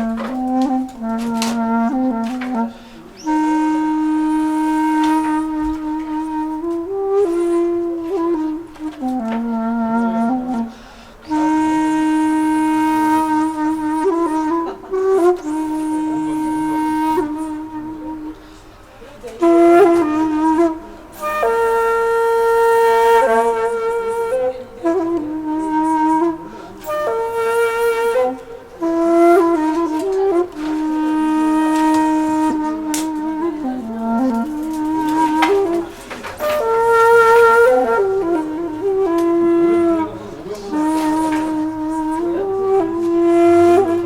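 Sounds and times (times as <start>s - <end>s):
slow flute melody: 0.0s - 44.0s.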